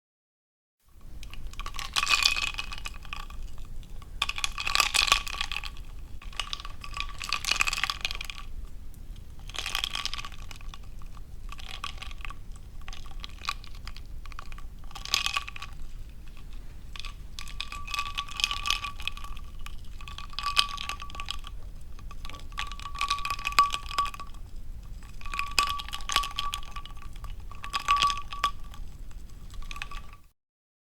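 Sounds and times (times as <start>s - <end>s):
ice cubes clinking in glass: 1.2s - 8.5s, 9.4s - 10.8s, 11.5s - 15.9s, 17.0s - 24.5s, 25.1s - 30.3s.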